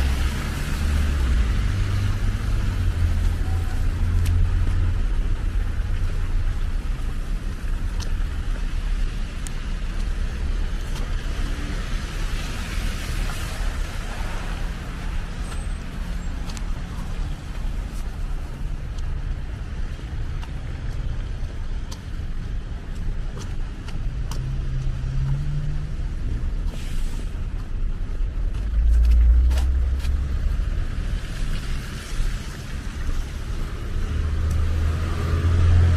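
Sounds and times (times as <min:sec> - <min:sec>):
car engines running: 0:00.0 - 0:35.9
low vehicle rumble: 0:00.0 - 0:35.9.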